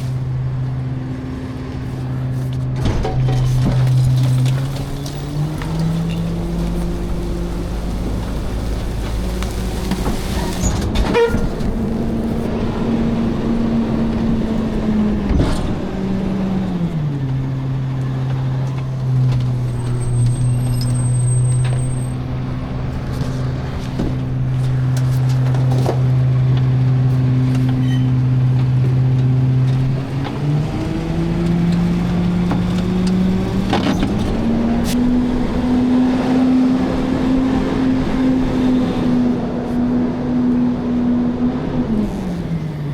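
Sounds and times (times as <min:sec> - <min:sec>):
garbage truck engine running: 0:00.0 - 0:42.9.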